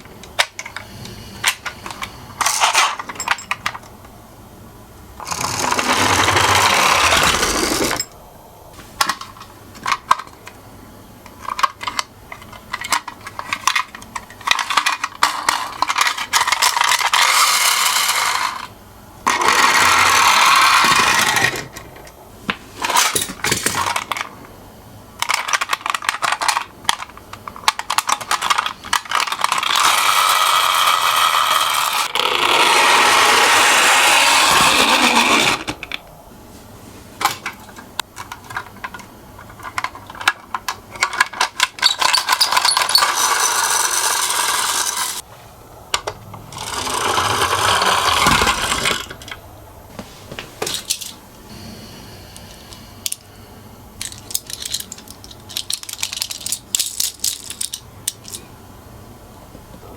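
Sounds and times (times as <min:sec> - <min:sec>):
toy cars rolling and rattling: 0:00.0 - 0:04.0, 0:05.2 - 0:08.2, 0:09.0 - 0:10.6, 0:11.3 - 0:22.2, 0:22.8 - 0:24.4, 0:25.2 - 0:36.0, 0:37.2 - 0:45.2, 0:45.9 - 0:49.4, 0:50.6 - 0:51.2, 0:53.0 - 0:53.2, 0:54.0 - 0:58.5.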